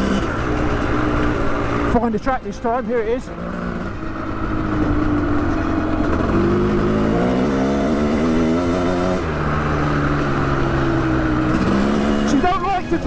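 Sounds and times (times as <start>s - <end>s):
two-stroke motocross bike engine: 0.0s - 13.0s.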